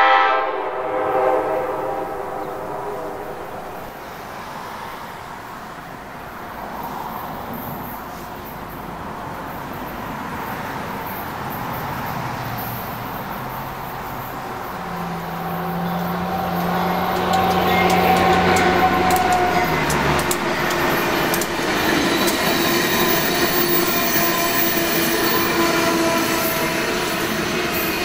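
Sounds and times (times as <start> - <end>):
locomotive hum: 0.0 - 28.0
train wheels rumbling on rail: 0.0 - 28.0.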